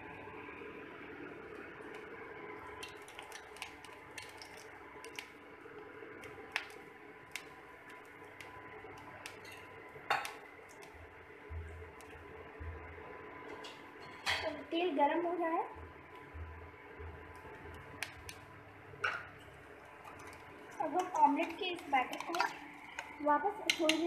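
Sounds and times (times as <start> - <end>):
induction cooktop hum: 0.0 - 24.0
oil crackling and popping: 1.3 - 14.4, 15.8 - 24.0.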